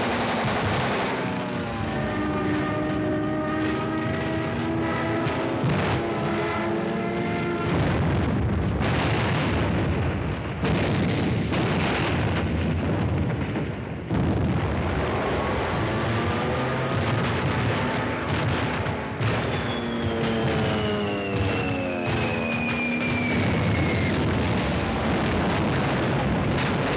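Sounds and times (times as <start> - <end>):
explosions and blasts: 0.0 - 26.9.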